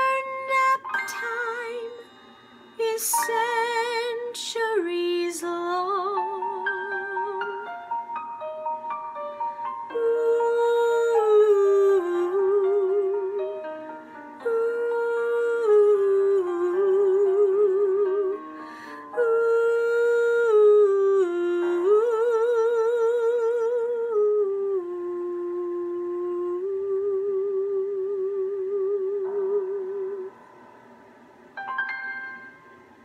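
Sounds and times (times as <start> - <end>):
woman singing wordless melody: 0.0 - 8.4, 9.1 - 30.5.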